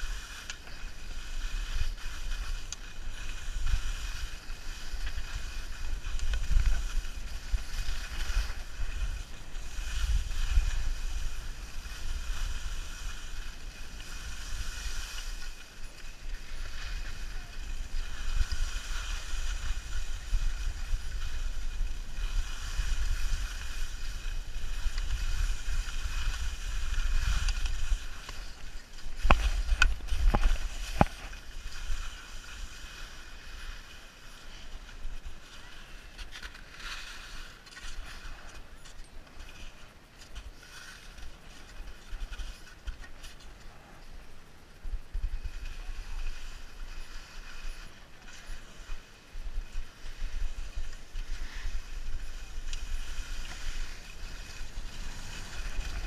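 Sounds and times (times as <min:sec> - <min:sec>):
skis hissing over snow: 0:00.0 - 0:56.0
wind rumble on microphone: 0:00.0 - 0:56.0.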